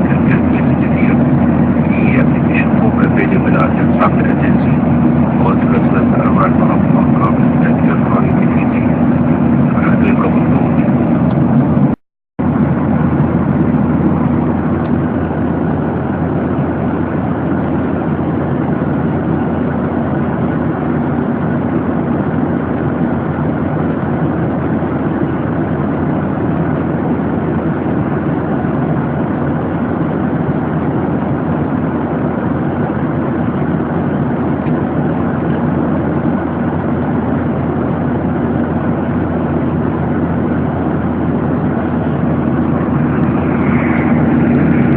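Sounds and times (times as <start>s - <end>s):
airplane cabin noise: 0.0s - 44.9s.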